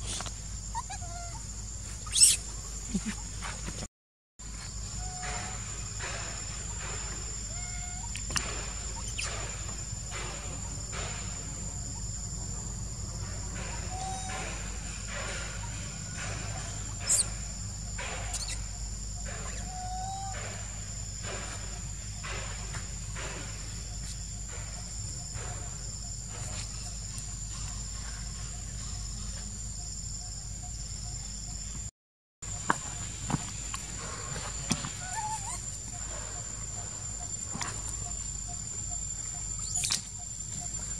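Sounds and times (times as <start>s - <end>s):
insects shrilling: 0.0s - 3.8s, 4.5s - 31.7s, 32.5s - 40.9s.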